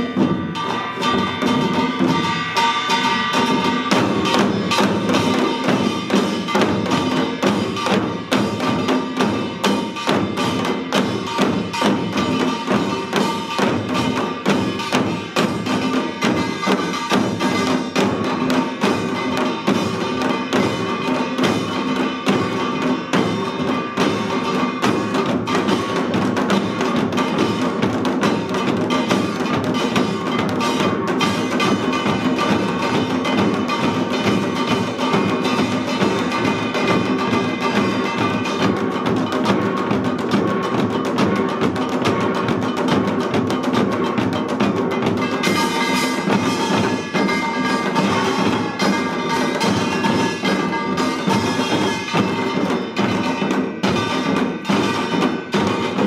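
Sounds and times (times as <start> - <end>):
drums beaten rapidly: 0.0 - 56.0
small gong clanging: 0.0 - 56.0.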